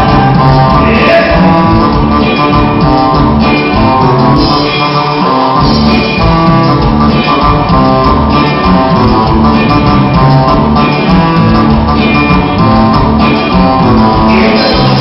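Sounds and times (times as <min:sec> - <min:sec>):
live band keyboards and drums: 0:00.0 - 0:15.0.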